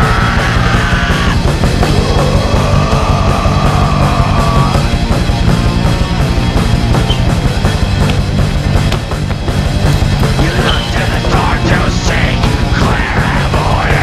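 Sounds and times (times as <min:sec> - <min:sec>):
heavy rock music: 0:00.0 - 0:14.0.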